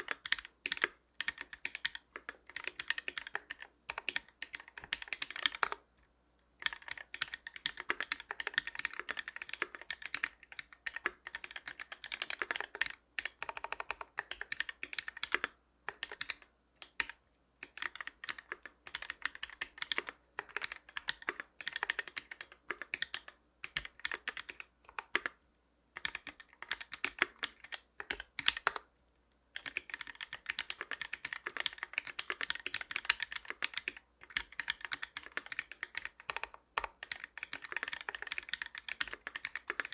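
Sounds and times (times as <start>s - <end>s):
mechanical keyboard typing: 0.0s - 5.8s, 6.6s - 25.4s, 26.0s - 28.9s, 29.6s - 39.9s.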